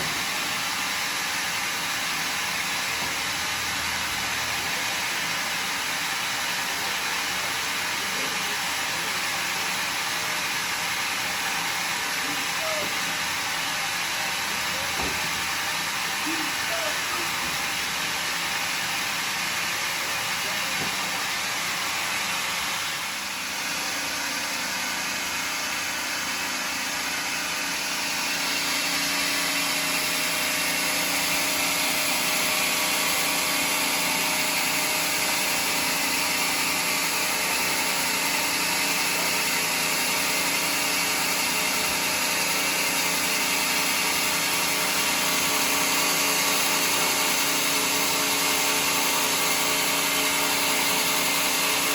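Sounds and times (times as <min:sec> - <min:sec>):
sawmill running: 0:00.0 - 0:51.9.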